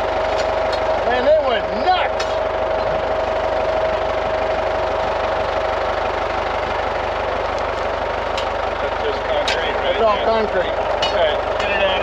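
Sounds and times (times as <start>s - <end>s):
steady whine: 0.0s - 12.0s
tractor engine idling: 0.0s - 12.0s.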